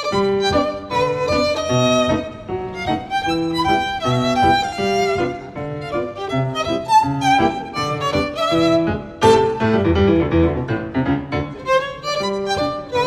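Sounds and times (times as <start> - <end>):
violin melody: 0.0 - 13.0.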